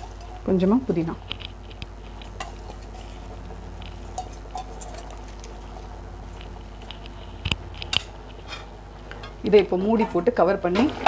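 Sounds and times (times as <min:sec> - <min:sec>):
soft crackles and pops: 0:00.0 - 0:09.6
pot of rice bubbling: 0:00.0 - 0:09.9
steady low hum: 0:00.0 - 0:11.0.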